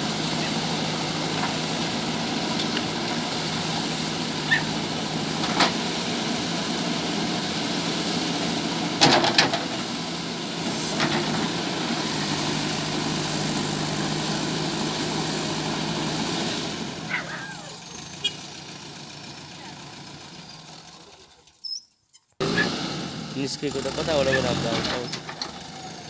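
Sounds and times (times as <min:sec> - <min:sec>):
diesel engine running: 0:00.0 - 0:21.6, 0:22.4 - 0:26.0.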